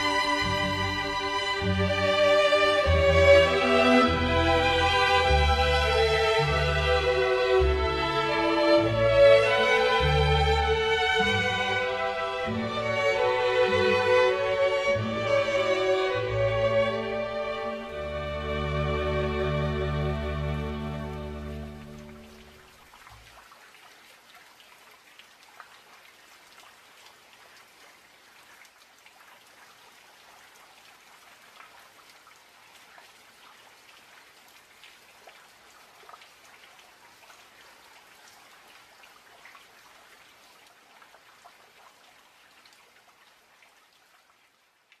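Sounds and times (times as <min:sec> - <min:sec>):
faint steady rain: 0:00.0 - 0:45.0.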